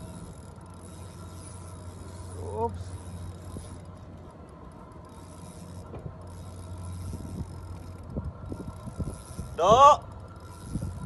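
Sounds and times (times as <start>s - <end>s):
fishing reel clicking: 0.0s - 11.0s
steady low hum: 0.0s - 11.0s.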